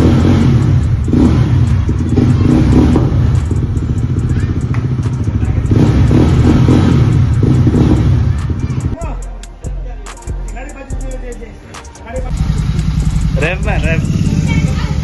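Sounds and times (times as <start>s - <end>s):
loud open motorcycle exhaust: 0.0s - 9.3s, 12.2s - 15.0s.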